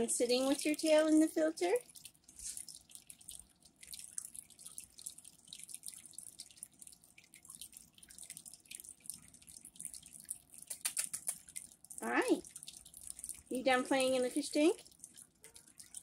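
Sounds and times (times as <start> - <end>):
cat paw dipping into water: 0.0 - 16.0
water dripping and trickling: 0.0 - 16.0.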